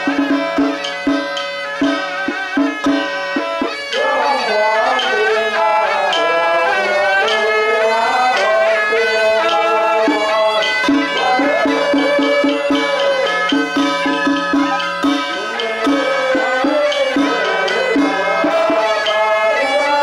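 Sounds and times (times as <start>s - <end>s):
percussion strokes: 0.0s - 20.0s.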